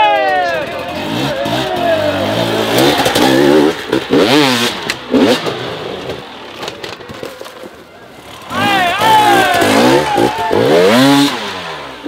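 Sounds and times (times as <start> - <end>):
dirt bike engine revving: 0.4 - 6.6, 8.2 - 12.0.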